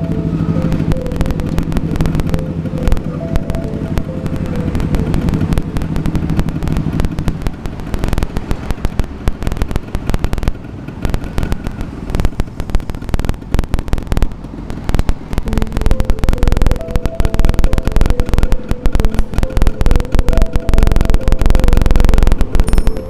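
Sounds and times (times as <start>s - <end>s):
exhaust popping and crackling: 0.0s - 23.0s
two-stroke motorcycle engine: 0.0s - 23.0s.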